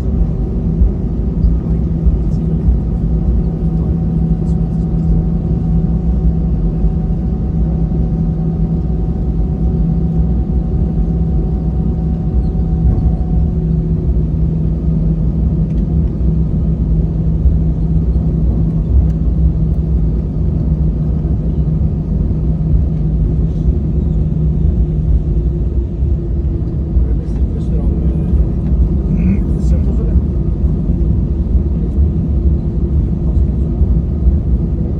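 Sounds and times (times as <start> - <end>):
aircraft cabin engine rumble: 0.0 - 34.9.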